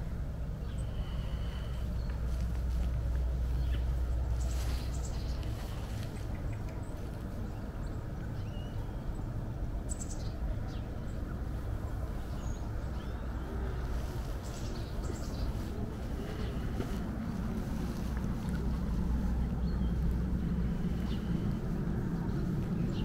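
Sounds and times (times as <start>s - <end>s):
steady low rumble: 0.0s - 23.0s
small birds chirping: 0.5s - 23.0s.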